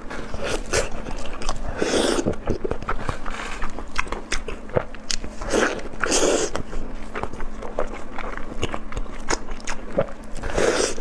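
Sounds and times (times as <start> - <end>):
close biting and chewing: 0.2 - 11.0.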